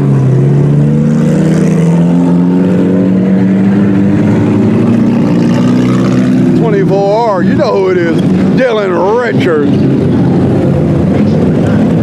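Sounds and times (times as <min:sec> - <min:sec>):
car engine accelerating: 0:00.0 - 0:12.0
race car engines running: 0:00.0 - 0:12.0.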